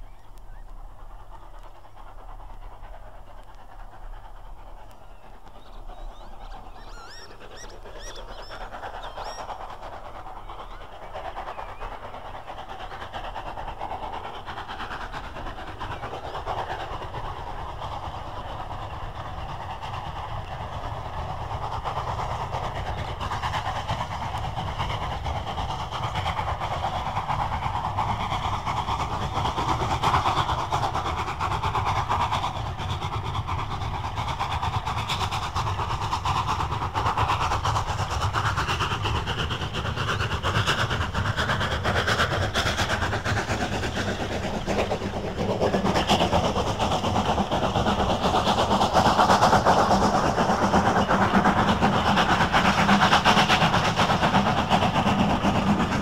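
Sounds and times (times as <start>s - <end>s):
steam locomotive exhaust beats: 0.0s - 56.0s.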